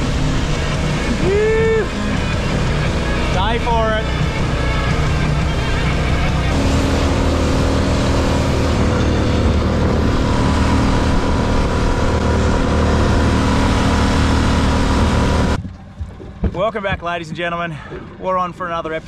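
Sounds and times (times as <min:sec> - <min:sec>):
loud rushing noise: 0:00.0 - 0:15.6
engine running steadily: 0:00.0 - 0:19.0.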